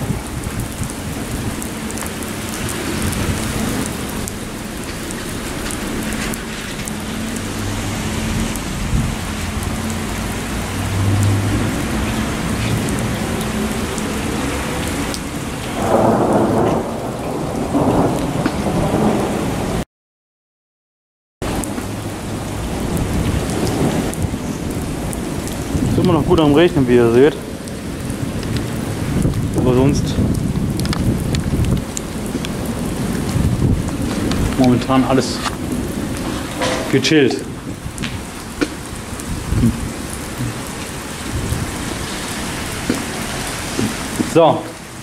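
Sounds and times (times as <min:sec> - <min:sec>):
heavy rain pouring: 0:00.0 - 0:19.8, 0:21.4 - 0:45.0
thunder rumbling: 0:00.0 - 0:19.8, 0:21.4 - 0:45.0.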